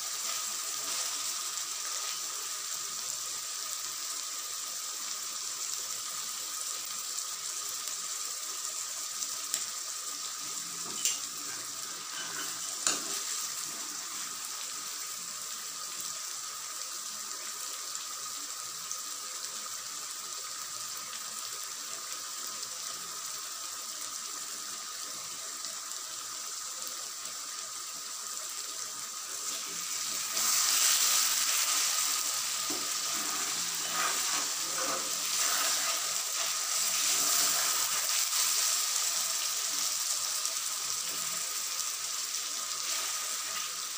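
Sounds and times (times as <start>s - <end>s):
curry sizzling and bubbling in a wok: 0.0s - 43.9s.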